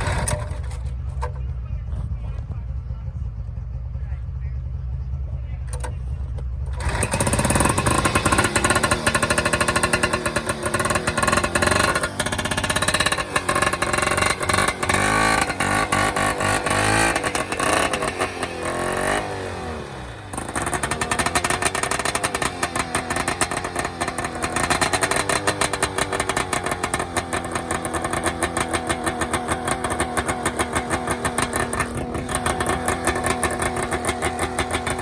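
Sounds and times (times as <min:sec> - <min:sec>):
snowmobile engine revving: 0:00.0 - 0:04.2, 0:04.8 - 0:35.0.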